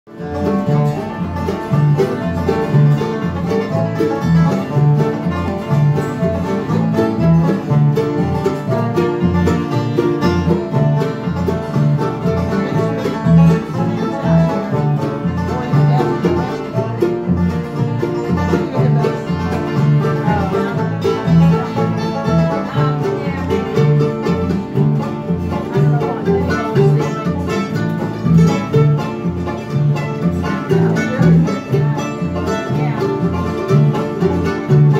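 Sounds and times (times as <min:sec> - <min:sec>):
acoustic guitars strumming: 0:00.1 - 0:34.9
banjo playing: 0:00.1 - 0:34.9
low bass notes: 0:00.1 - 0:34.9.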